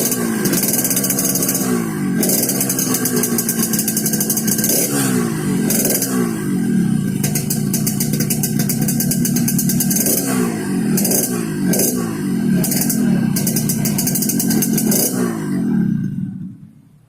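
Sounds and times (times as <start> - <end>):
two-stroke motorcycle engine revving: 0.0 - 16.8.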